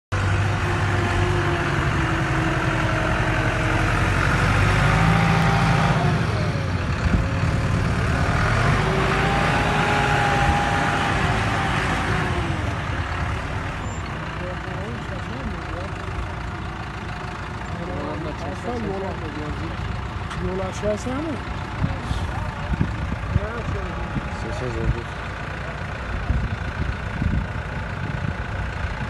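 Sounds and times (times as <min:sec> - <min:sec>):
lorry diesel engine revving: 0:00.1 - 0:29.0
tractor diesel engine revving: 0:00.1 - 0:29.0.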